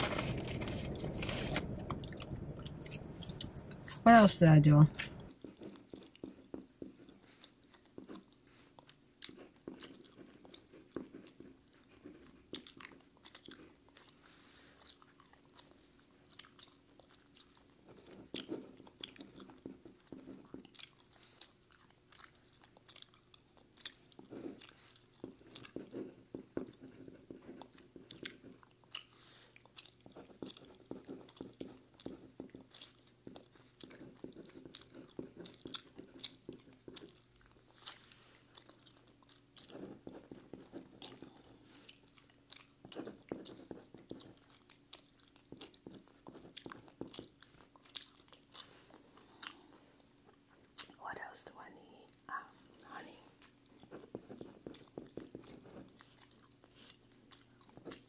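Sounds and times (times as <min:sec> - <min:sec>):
chewing: 0:01.7 - 0:04.0, 0:04.9 - 0:51.4, 0:52.0 - 0:58.0.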